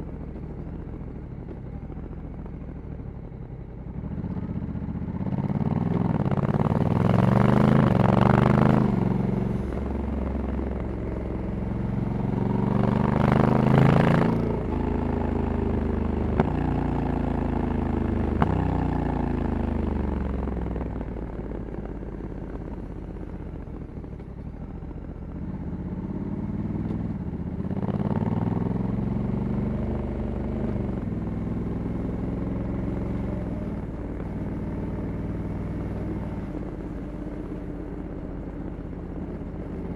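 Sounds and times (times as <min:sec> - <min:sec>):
motorcycle engine revving: 0:03.9 - 0:39.9.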